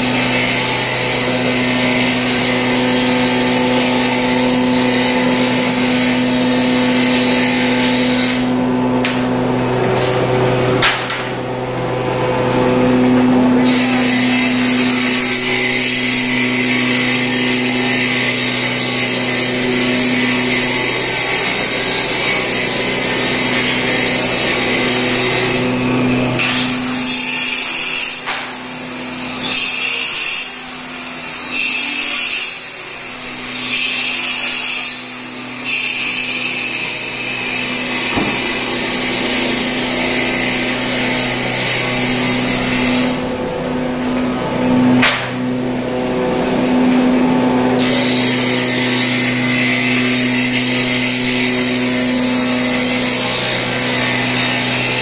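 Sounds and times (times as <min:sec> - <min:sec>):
woodworking machine motor hum: 0:00.0 - 0:55.0.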